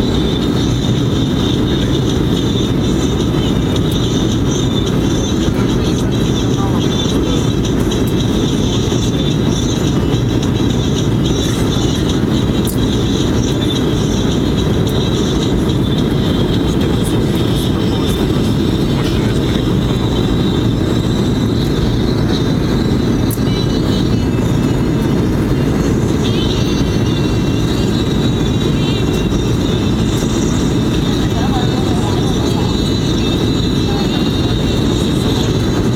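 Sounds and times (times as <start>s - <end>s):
airplane cabin low rumble: 0.0s - 35.9s.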